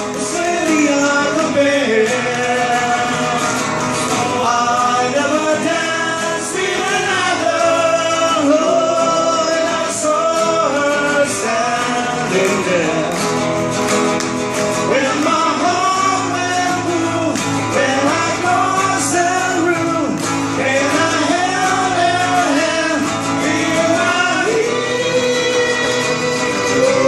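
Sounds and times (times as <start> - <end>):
men singing in harmony: 0.0 - 13.5, 14.7 - 27.0
strummed acoustic guitars: 0.0 - 27.0.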